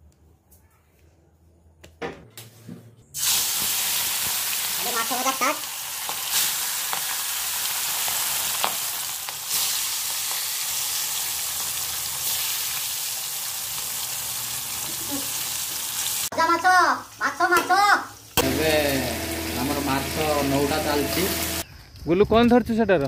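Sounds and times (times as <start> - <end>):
fish sizzling in hot oil: 3.2 - 21.6.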